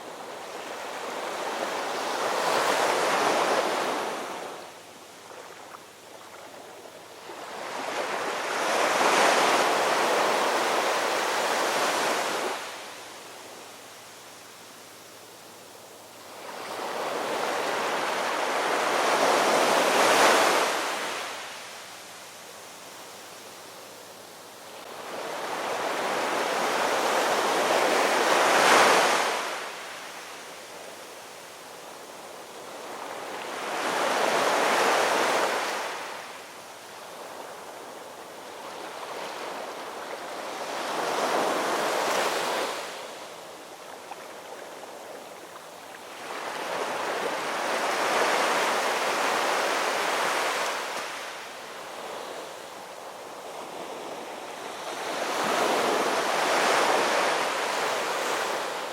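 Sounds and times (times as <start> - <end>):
ocean waves on a shore: 0.0 - 58.9.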